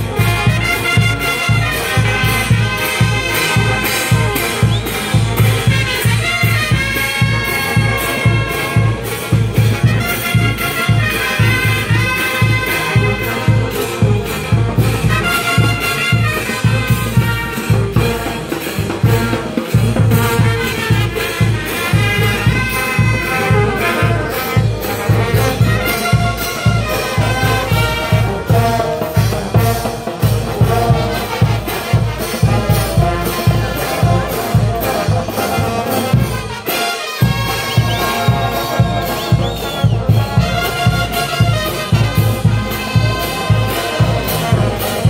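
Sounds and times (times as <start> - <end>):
bass drum beat: 0.0 - 36.6, 37.2 - 45.0
trumpets and saxophones: 0.0 - 45.0.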